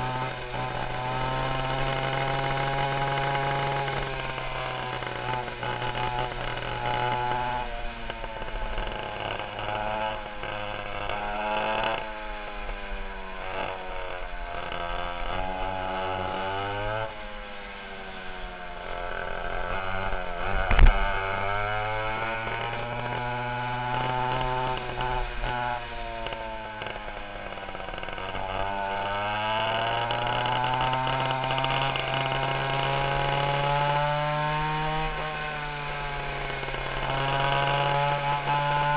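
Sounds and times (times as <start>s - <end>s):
go-kart engines revving: 0.0s - 38.9s.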